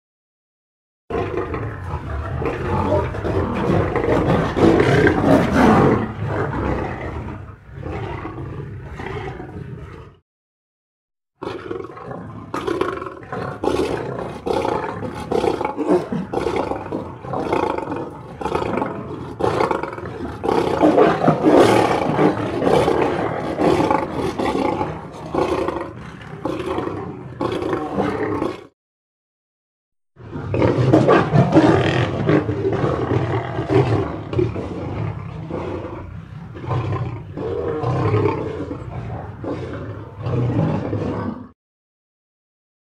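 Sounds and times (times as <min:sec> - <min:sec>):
lions roaring: 0:01.1 - 0:10.2, 0:11.4 - 0:28.7, 0:30.2 - 0:41.6.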